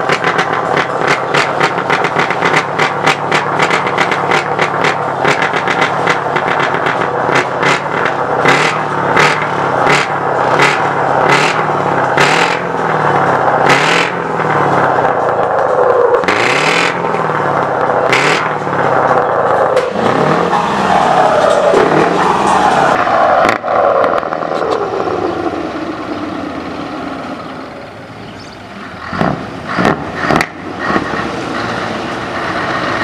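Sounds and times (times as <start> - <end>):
exhaust crackle and blips: 0.0 - 33.0
truck engine revving: 0.0 - 33.0.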